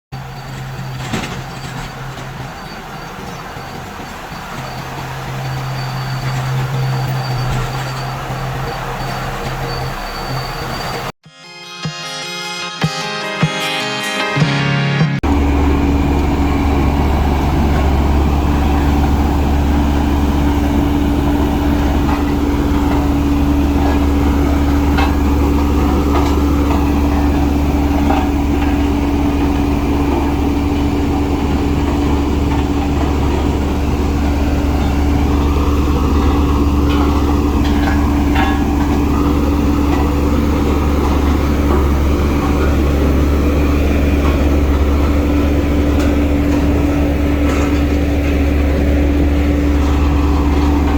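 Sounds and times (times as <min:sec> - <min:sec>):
diesel engine running: 0:00.0 - 0:11.2, 0:15.2 - 0:50.9.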